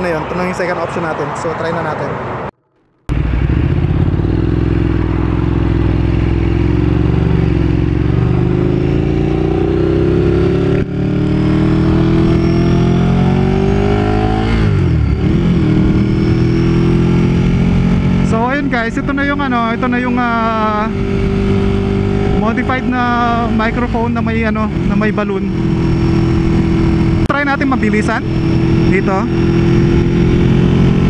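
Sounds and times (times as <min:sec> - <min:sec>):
motorcycle engine accelerating: 0:02.7 - 0:31.0.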